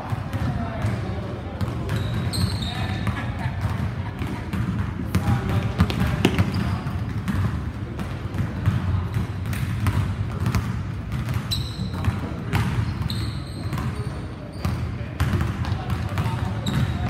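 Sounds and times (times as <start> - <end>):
basketballs bouncing on wood floor: 0.0 - 17.0.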